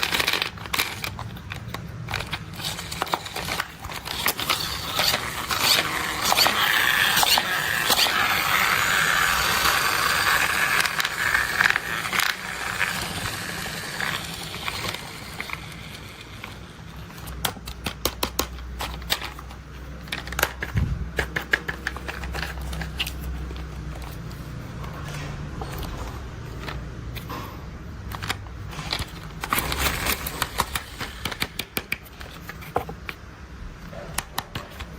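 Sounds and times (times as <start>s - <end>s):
plastic toys crackling and scraping: 0.0s - 34.9s.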